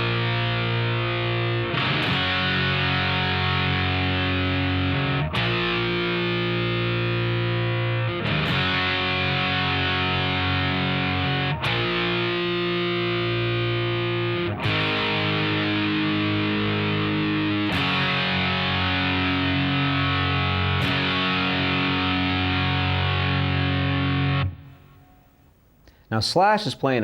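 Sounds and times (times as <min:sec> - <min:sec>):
distorted electric guitar chords: 0:00.0 - 0:25.5.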